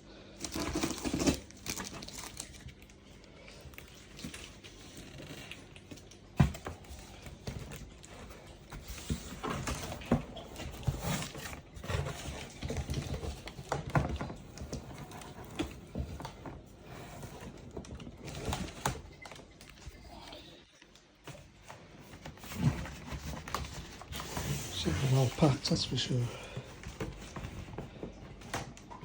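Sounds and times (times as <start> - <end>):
packaging rustling and crinkling: 0.3 - 29.0.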